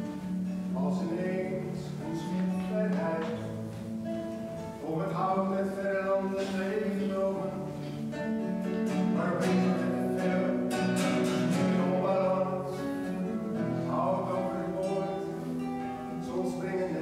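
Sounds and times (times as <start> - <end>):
classical guitar playing: 0.0 - 17.0.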